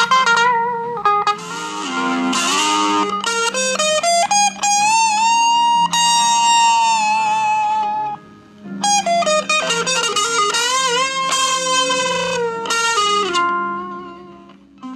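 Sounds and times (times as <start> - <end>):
electric guitar lead line: 0.0 - 14.9.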